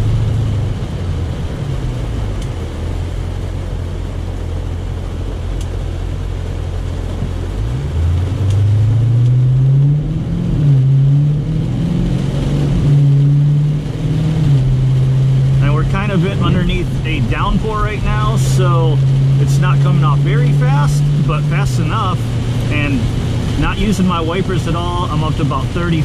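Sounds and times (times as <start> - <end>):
car engine from inside cabin: 0.0 - 26.0
heavy rain on car: 0.0 - 26.0.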